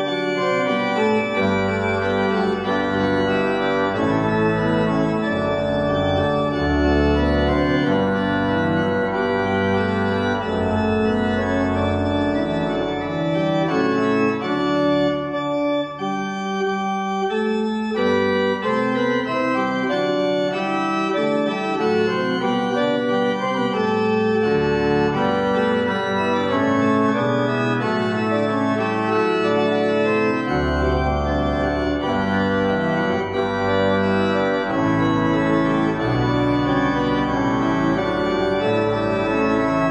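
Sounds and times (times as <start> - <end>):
deep organ pedal bass notes: 0.0 - 39.9
pipe organ chords: 0.0 - 39.9.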